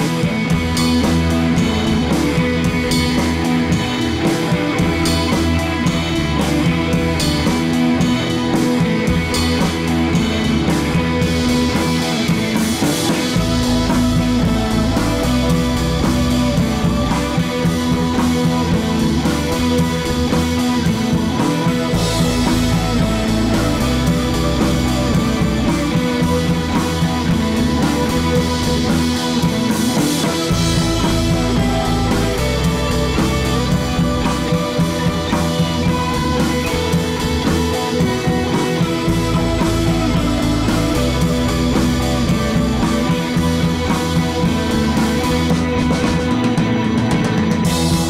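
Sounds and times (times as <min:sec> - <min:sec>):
rock music with guitar and drums: 0:00.0 - 0:48.0.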